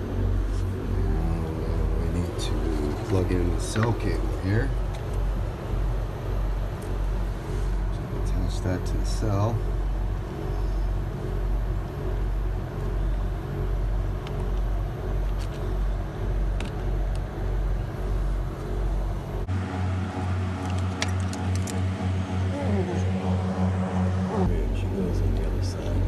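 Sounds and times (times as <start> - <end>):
pulsing motor hum: 0.0 - 26.0.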